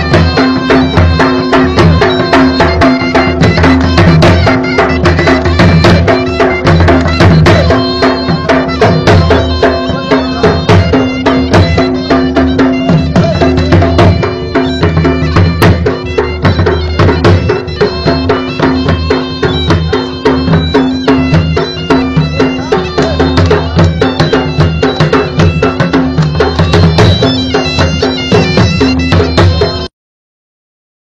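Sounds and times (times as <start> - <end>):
dhol drum beating: 0.0 - 29.9
reed wind instrument melody: 0.0 - 29.9.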